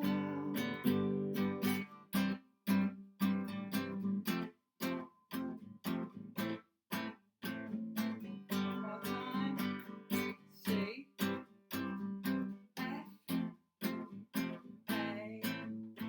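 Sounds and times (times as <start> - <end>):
acoustic guitar choppy strumming: 0.0 - 16.0.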